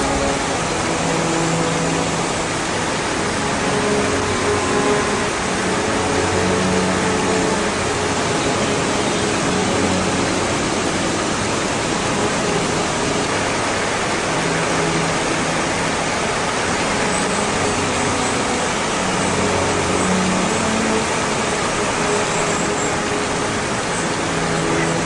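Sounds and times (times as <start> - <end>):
waterfall and stream rushing: 0.0 - 25.0.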